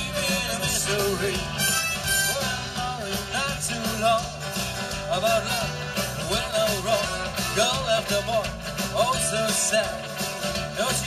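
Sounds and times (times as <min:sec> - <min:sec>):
acoustic and electric guitars: 0:00.0 - 0:11.0
bass notes: 0:00.0 - 0:11.0
drum beat: 0:00.0 - 0:11.0
person singing: 0:00.0 - 0:11.0.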